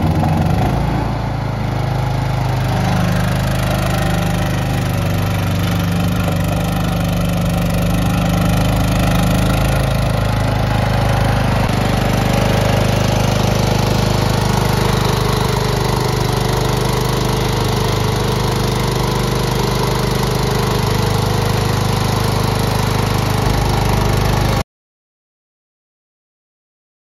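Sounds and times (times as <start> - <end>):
ride-on mower engine running: 0.0 - 24.6.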